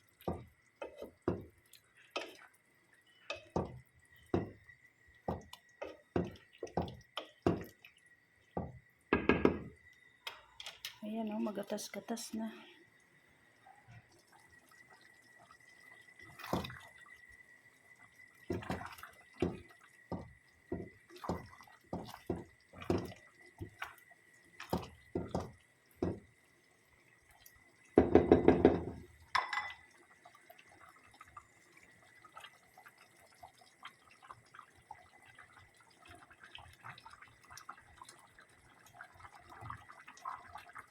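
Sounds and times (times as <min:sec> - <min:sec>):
curry bubbling in a pot: 0:00.0 - 0:40.9.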